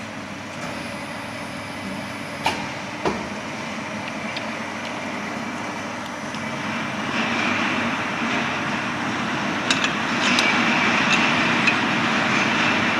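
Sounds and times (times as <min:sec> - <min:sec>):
bending machine drone and whine: 0:00.0 - 0:12.9.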